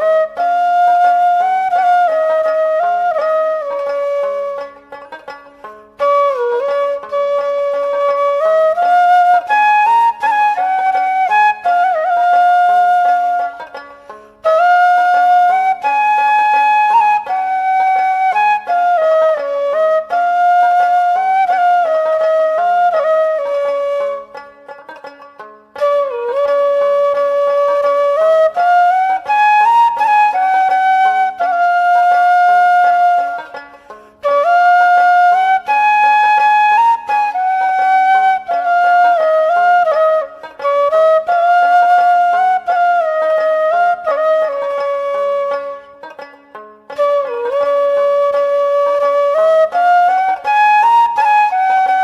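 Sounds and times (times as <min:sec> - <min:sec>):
flute-like woodwind melody: 0:00.0 - 0:25.0, 0:25.7 - 0:52.0.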